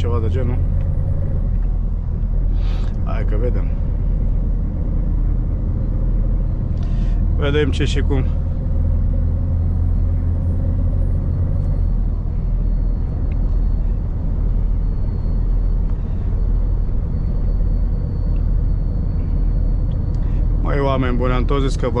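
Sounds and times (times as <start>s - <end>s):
road noise: 0.0s - 22.0s
truck diesel engine drone: 0.0s - 22.0s.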